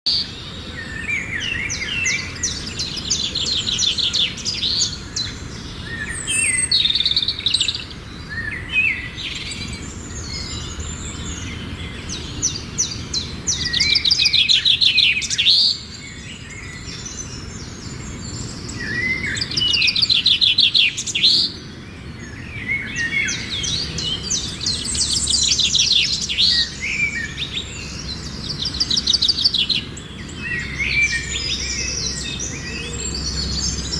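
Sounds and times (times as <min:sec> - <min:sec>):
songbird trilling: 0:00.1 - 0:33.9.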